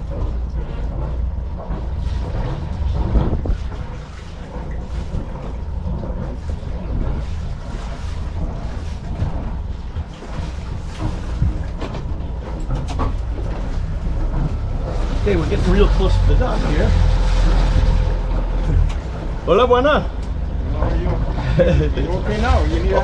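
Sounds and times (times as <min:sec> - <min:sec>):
boat engine idling: 0:00.0 - 0:23.0
wind buffeting microphone: 0:00.0 - 0:23.0.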